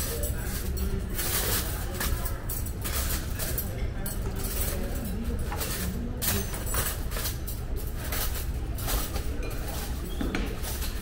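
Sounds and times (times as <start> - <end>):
dishes and cutlery clinking: 0.0 - 11.0.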